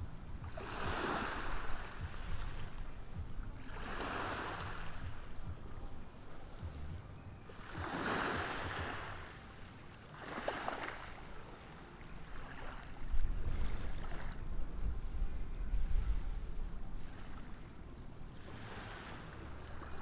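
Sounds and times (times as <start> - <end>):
wind rumble on microphone: 0.0 - 9.6, 12.1 - 20.0
ocean waves breaking: 0.0 - 20.0.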